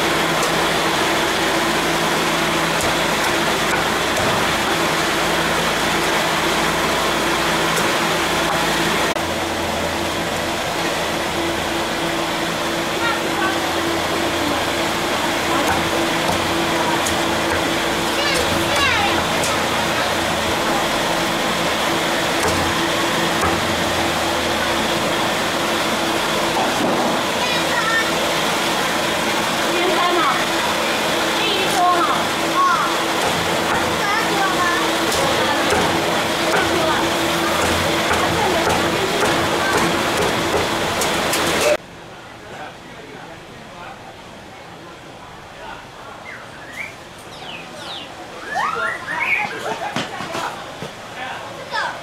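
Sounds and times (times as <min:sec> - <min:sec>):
mechanical whir with hum: 0:00.0 - 0:41.9.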